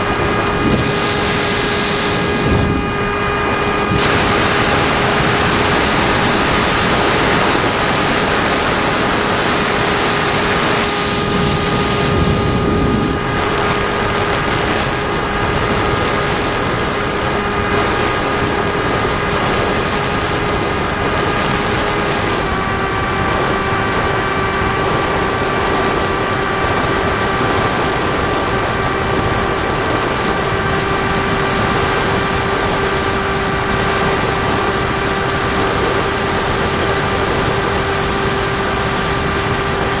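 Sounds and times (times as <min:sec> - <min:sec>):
high thin whine: 0:00.0 - 0:40.0
model plane motor and propeller: 0:00.0 - 0:40.0
rush of air: 0:00.0 - 0:40.0.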